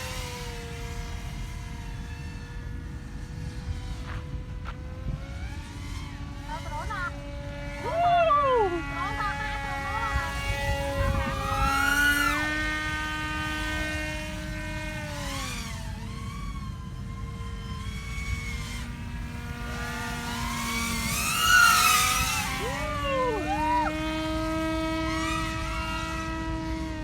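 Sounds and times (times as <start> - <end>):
model aircraft motor whining: 0.0 - 27.0.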